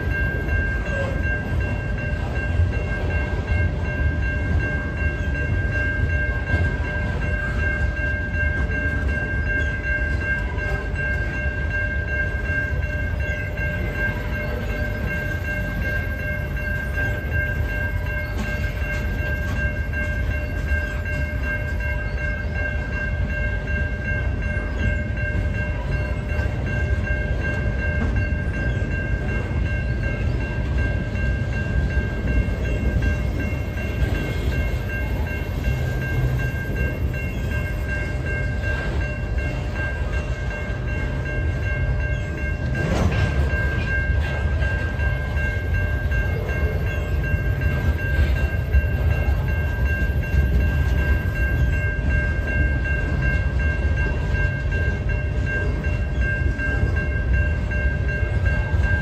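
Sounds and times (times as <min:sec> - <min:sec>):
crossing warning bell ringing: 0:00.0 - 0:59.0
freight cars rumbling over rails: 0:00.0 - 0:59.0.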